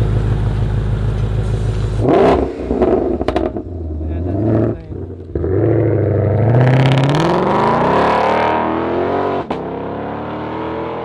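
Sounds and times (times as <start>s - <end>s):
car engine accelerating hard: 1.8s - 11.0s.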